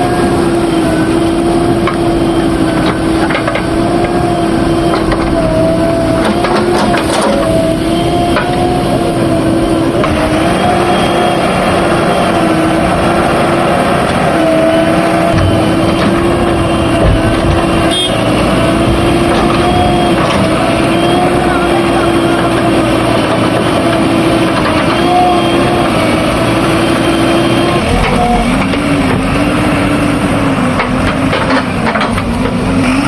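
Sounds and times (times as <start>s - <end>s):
steady whine: 0.0s - 31.0s
diesel engine under load: 0.0s - 33.0s.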